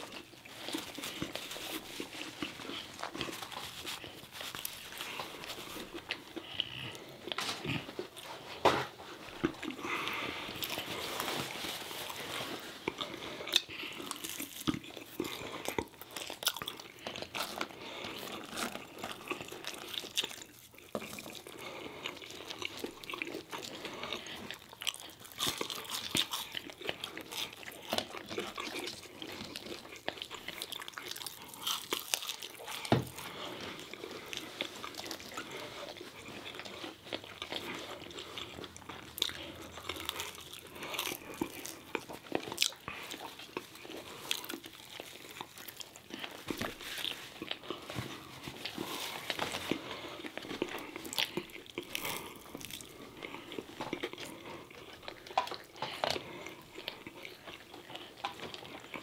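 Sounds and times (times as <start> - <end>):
people chewing crunchy food: 0.0 - 59.0.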